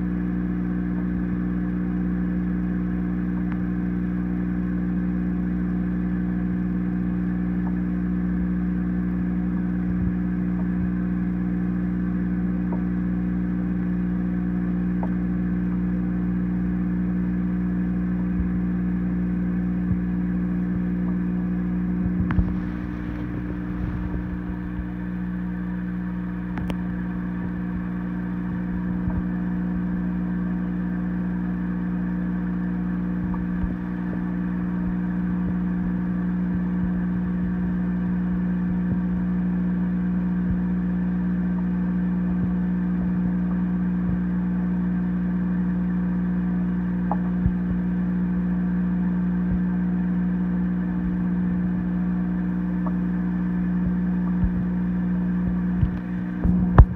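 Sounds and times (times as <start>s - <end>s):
aquarium pump humming: 0.0s - 56.9s.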